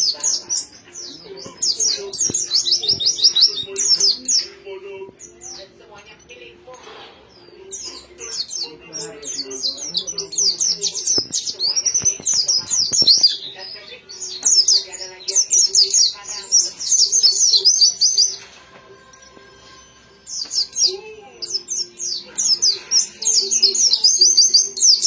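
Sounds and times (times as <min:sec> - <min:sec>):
bird twittering song: 0:00.0 - 0:25.0.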